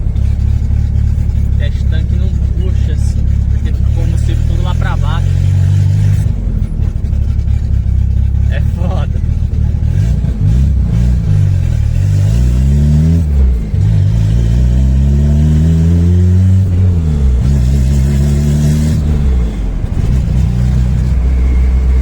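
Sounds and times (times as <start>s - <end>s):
turbocharged car engine accelerating: 0.0s - 22.0s.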